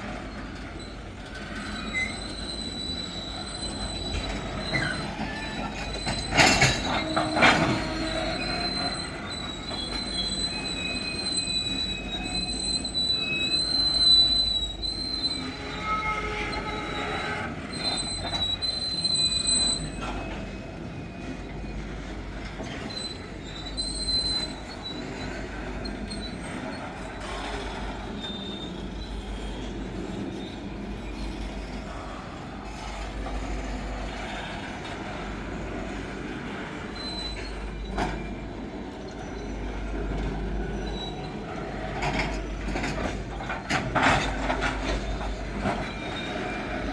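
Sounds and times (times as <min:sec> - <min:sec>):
train rolling rumble: 0:00.0 - 0:46.9
train wheels squealing: 0:00.0 - 0:46.9.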